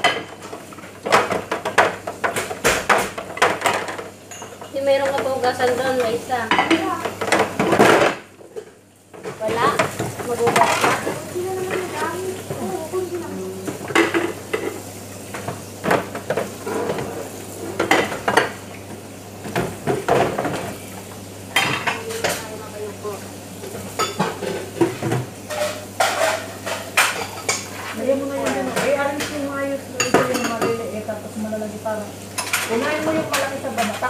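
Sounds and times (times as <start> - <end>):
dishes clattering in a sink: 0.0 - 20.8, 21.5 - 22.6, 23.6 - 31.1, 32.4 - 34.0.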